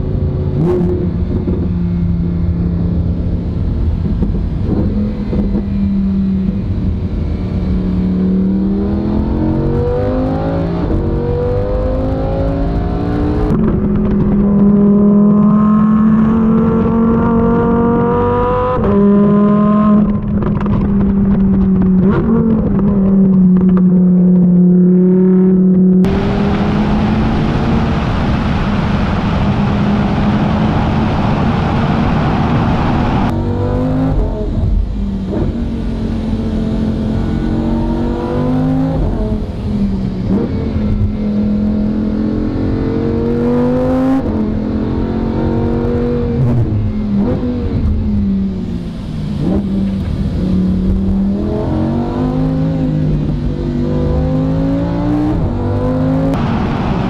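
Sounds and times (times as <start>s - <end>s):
sports car engine revving: 3.2s - 57.0s.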